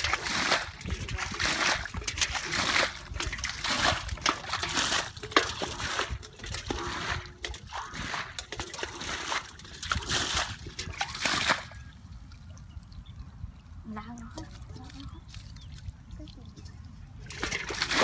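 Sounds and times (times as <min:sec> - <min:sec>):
muddy water sloshing and splashing: 0:00.0 - 0:18.0.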